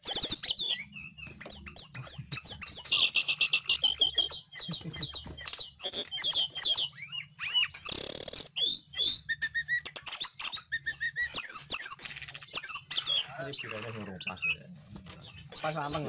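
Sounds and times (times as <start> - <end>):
harsh bird rasp: 0.0 - 16.0
small bird singing: 0.0 - 16.0.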